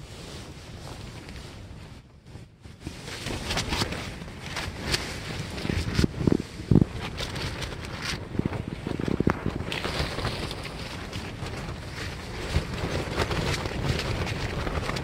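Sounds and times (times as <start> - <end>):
gusts thumping tent walls: 0.0 - 15.0
tent fabric flapping: 0.0 - 15.0.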